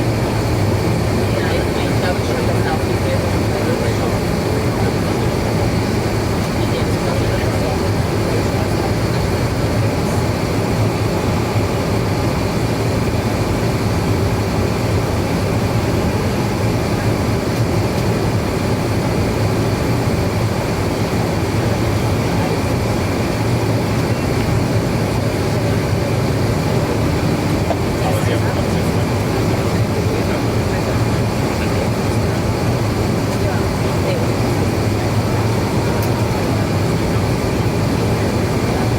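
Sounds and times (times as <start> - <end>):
airliner cabin air rush: 0.0 - 38.9
low engine drone: 0.0 - 38.9.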